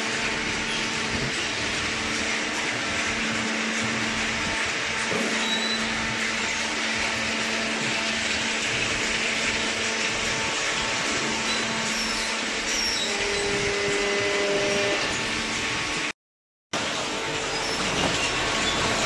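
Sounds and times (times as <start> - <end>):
machinery whirring: 0.0 - 16.1.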